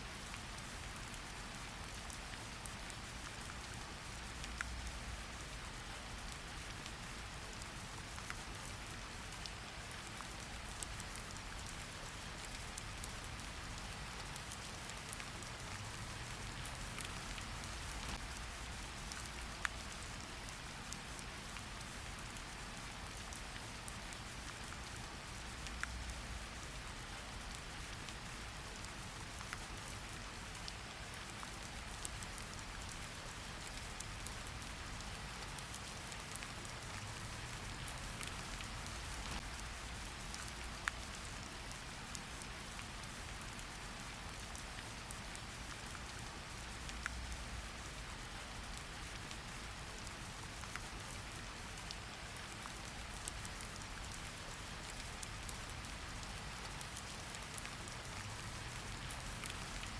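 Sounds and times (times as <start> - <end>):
steady rain: 0.0 - 59.9
raindrop ticks: 0.2 - 54.2, 54.8 - 59.9.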